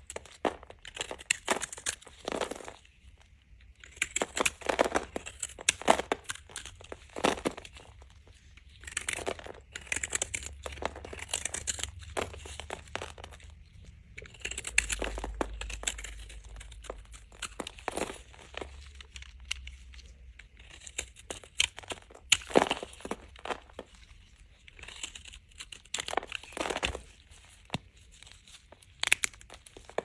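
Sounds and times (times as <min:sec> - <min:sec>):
knife cutting bar soap: 0:03.7 - 0:30.0.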